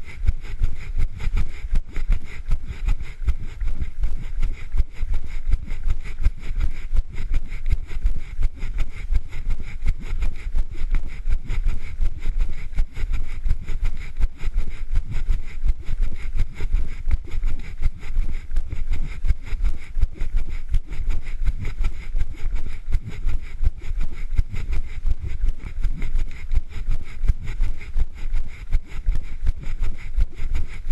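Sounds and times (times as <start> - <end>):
wind rumble on microphone: 0.0 - 30.9.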